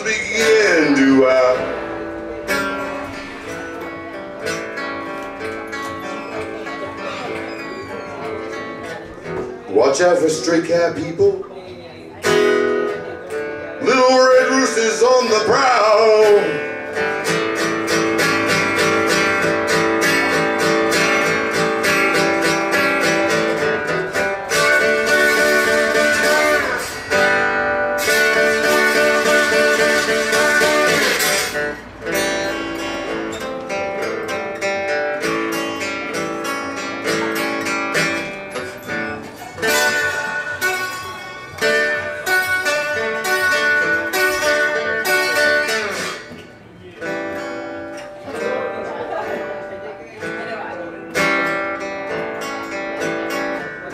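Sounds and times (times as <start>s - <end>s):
blues guitar with bent notes: 0.0s - 53.9s.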